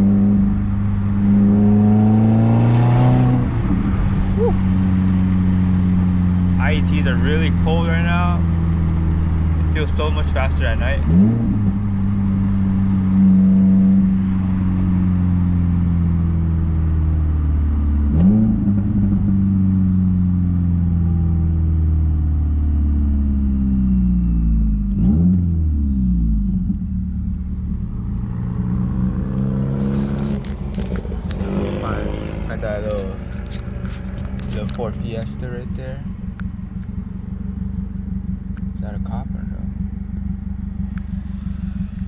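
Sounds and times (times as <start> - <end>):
car engine and exhaust while driving: 0.0 - 42.0.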